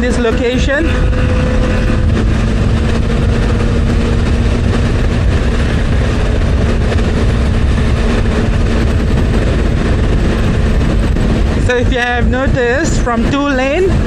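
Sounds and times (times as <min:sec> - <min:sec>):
motorcycle engine hum: 0:00.0 - 0:14.0
wind rush: 0:00.0 - 0:14.0.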